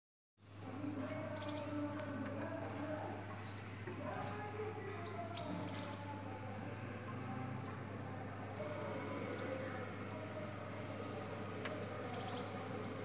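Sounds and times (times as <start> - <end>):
low steady hum: 0.4 - 13.0
small birds chirping: 0.4 - 13.0.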